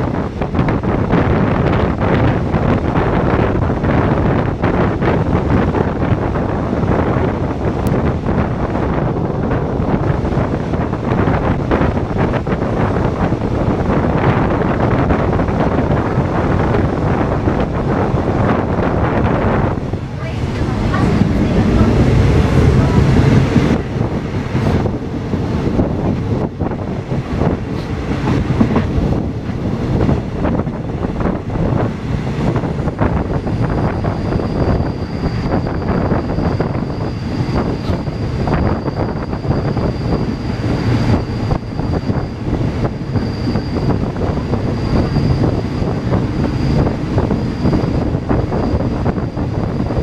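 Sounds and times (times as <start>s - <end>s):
train rumbling and clattering: 0.0s - 50.0s
wind buffeting microphone: 0.0s - 50.0s.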